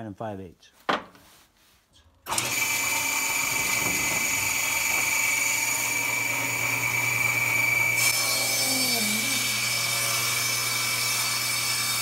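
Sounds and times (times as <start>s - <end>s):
table saw running: 2.3s - 12.0s.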